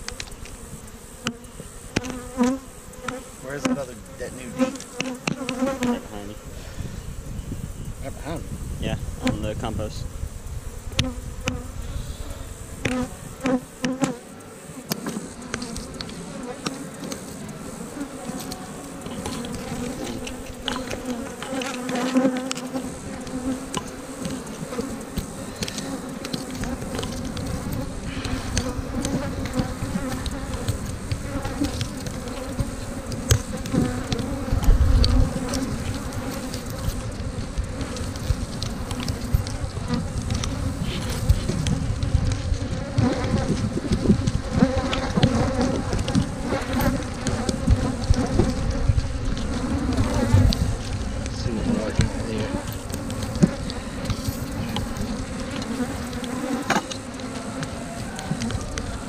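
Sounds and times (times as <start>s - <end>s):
hive frames knocking and clicking: 0.0s - 6.0s, 10.9s - 11.7s, 12.8s - 14.2s, 14.8s - 59.0s
bees buzzing: 0.0s - 59.0s.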